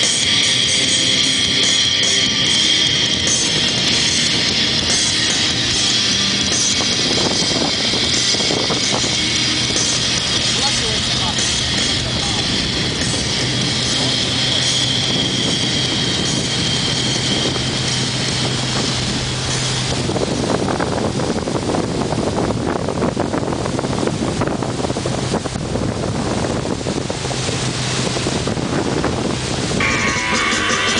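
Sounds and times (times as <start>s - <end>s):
boat engine running: 0.0s - 30.9s
water rushing: 0.0s - 30.9s
wind buffeting microphone: 0.0s - 30.9s.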